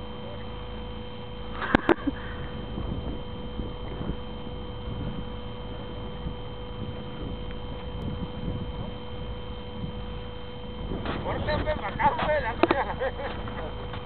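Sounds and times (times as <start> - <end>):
drilling rig machinery humming: 0.0 - 14.0.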